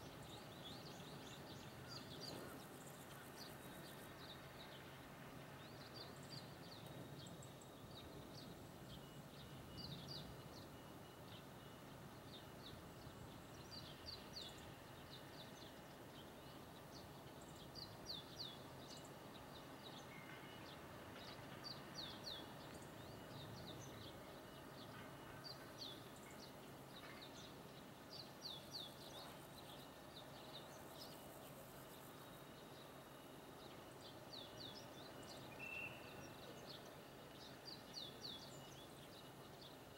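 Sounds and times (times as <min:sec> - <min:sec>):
faint background hum: 0:00.0 - 0:39.9.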